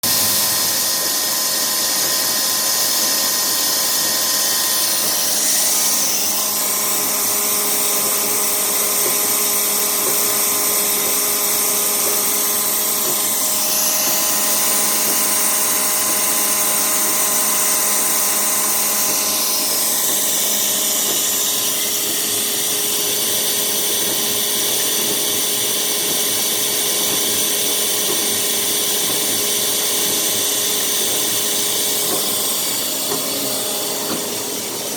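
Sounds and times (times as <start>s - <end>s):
loud motor whine: 0.0s - 34.9s.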